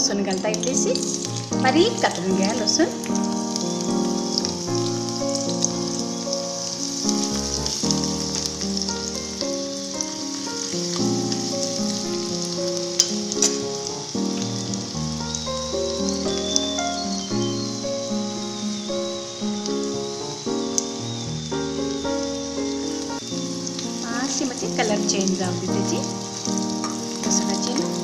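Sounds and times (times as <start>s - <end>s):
background music: 0.0s - 28.0s
garlic sizzling in hot oil: 0.0s - 28.0s.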